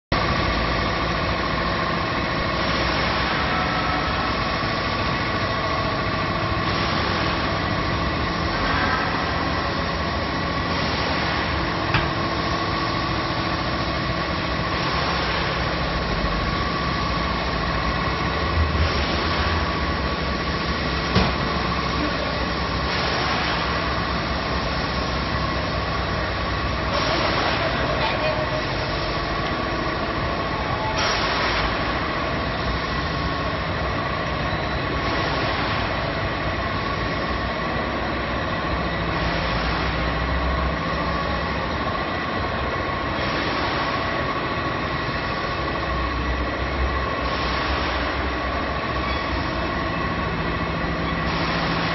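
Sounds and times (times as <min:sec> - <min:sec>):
production line machinery din: 0:00.1 - 0:51.9.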